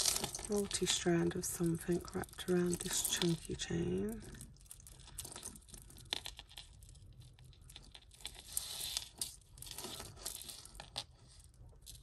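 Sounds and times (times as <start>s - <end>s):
jewellery rustling and clicking: 0.0s - 12.0s.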